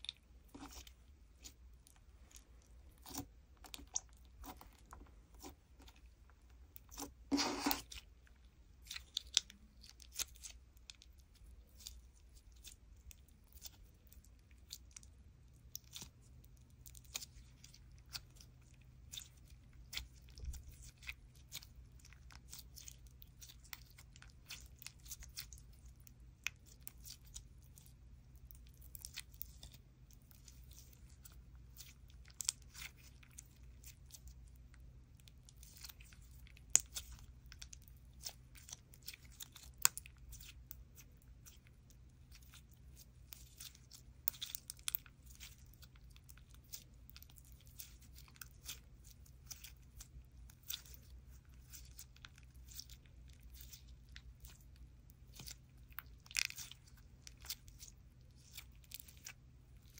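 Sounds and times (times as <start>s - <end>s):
sticky slime crackling and popping: 6.8s - 59.9s.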